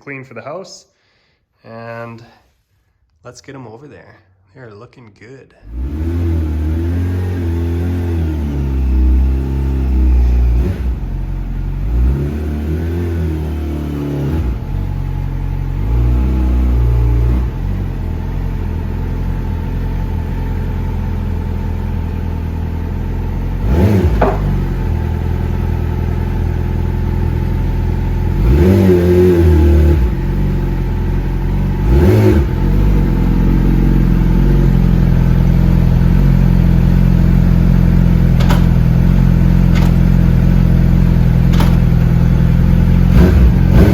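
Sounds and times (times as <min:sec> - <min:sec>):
motorcycle engine idling and revving: 0:05.6 - 0:43.9.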